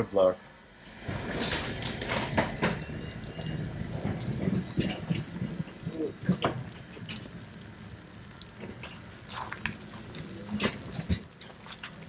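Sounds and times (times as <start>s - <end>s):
rain falling and dripping: 1.9s - 12.0s.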